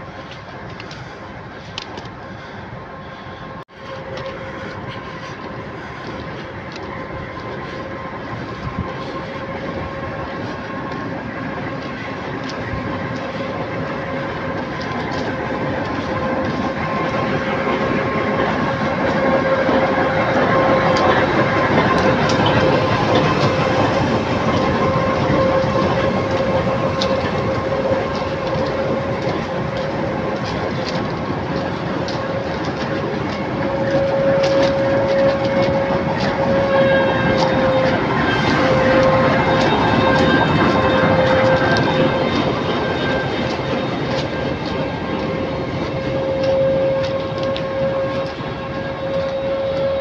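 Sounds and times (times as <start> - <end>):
steady train whine: 0.0 - 50.0
train wheels clicking over rail joints: 0.0 - 50.0.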